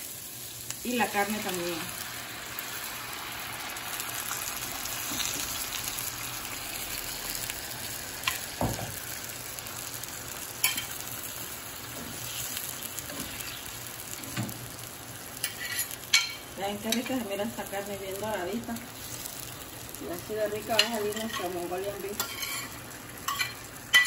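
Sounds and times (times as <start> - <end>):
vegetables sizzling in a skillet: 0.0 - 24.0.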